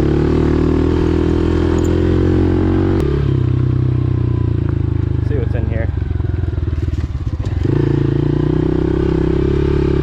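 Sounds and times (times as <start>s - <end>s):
motorbike engine running: 0.0s - 10.0s.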